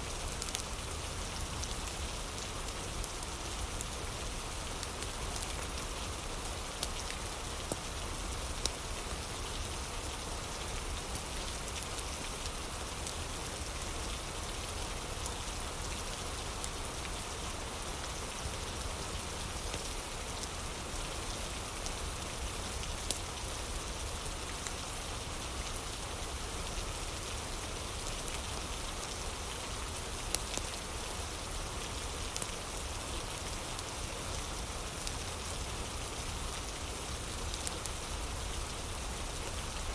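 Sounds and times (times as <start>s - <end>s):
steady rain falling: 0.0s - 39.9s
wood fire crackling: 0.1s - 9.7s, 10.3s - 17.6s, 18.2s - 23.2s, 27.9s - 39.9s.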